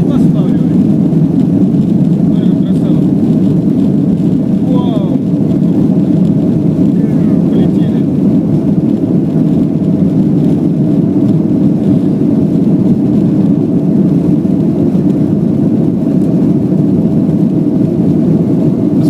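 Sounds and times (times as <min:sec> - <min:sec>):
vehicle engine and travel drone: 0:00.0 - 0:19.0.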